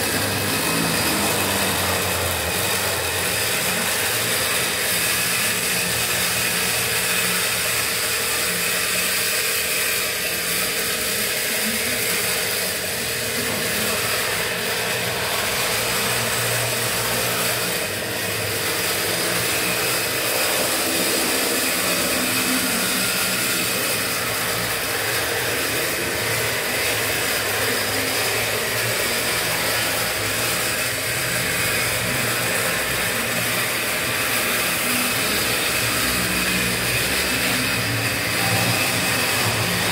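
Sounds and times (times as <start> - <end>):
mechanical whirring hum: 0.0 - 39.9.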